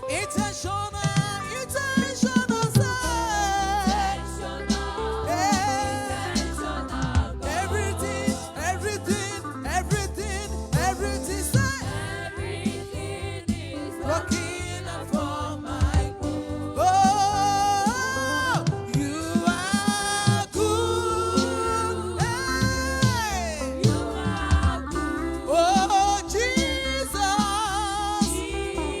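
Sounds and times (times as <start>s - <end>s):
gospel singing voices: 0.0s - 29.0s
instrumental backing with beat: 0.0s - 29.0s.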